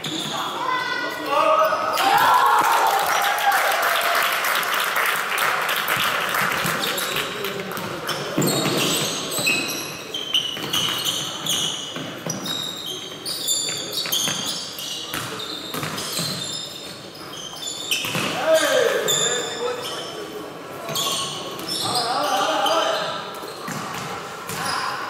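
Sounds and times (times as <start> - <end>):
sneakers squeaking: 0.0 - 2.3, 6.4 - 25.0.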